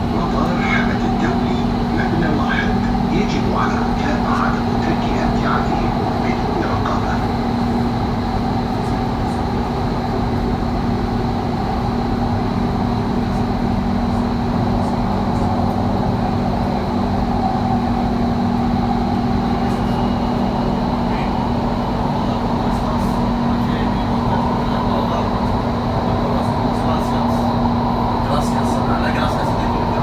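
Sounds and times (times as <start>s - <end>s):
train rumble inside carriage: 0.0s - 30.0s.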